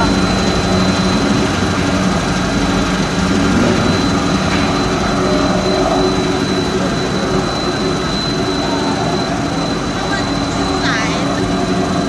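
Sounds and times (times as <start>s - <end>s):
machinery high whine: 0.0s - 12.0s
machinery low hum: 0.0s - 12.0s.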